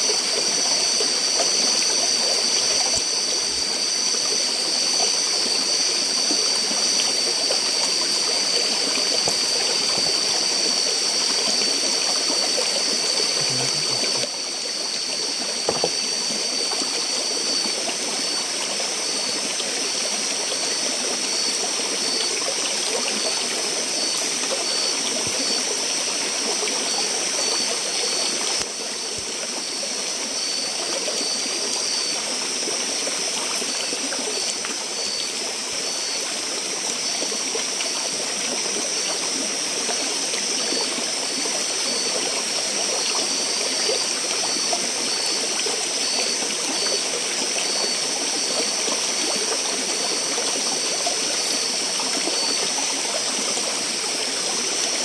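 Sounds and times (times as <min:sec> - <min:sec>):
high-pitched insect drone: 0:00.0 - 0:55.0
water flowing: 0:00.0 - 0:55.0.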